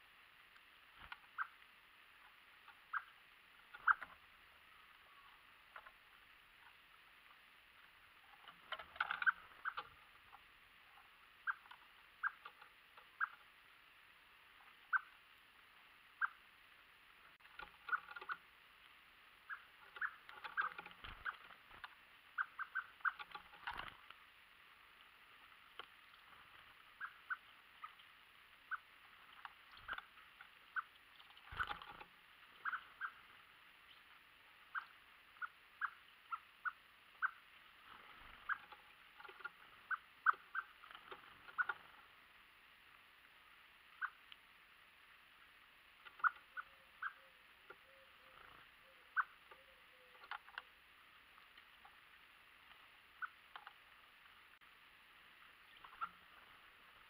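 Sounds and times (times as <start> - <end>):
birds pecking on wooden feeder: 0.4 - 15.1, 17.0 - 34.1, 34.7 - 43.1, 45.5 - 46.7, 47.5 - 54.4, 55.6 - 57.0.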